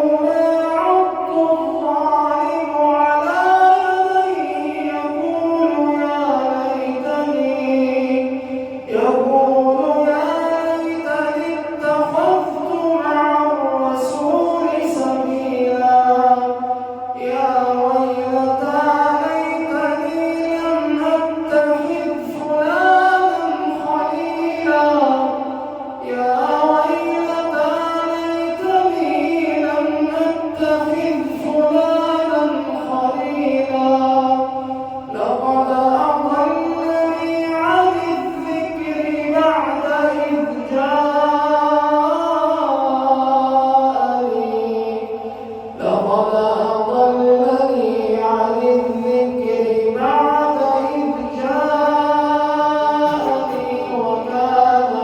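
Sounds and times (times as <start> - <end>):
man reciting in melodic chant: 0.0 - 55.0.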